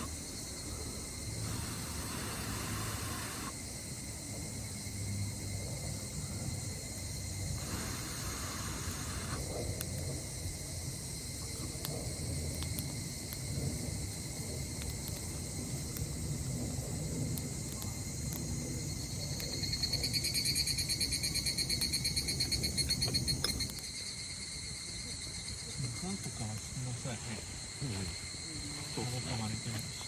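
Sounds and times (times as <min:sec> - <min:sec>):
insects trilling: 0:00.0 - 0:30.0
pulsing insect call: 0:00.0 - 0:30.0.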